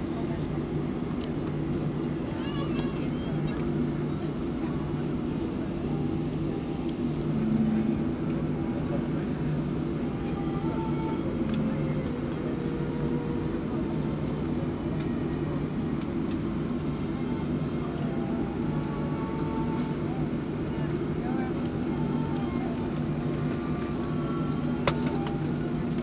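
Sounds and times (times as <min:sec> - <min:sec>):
jet engines low hum: 0:00.0 - 0:26.0.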